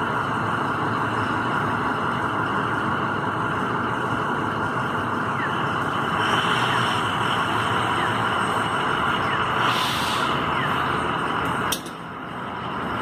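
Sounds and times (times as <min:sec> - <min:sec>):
truck engine and machinery noise: 0:00.0 - 0:13.0.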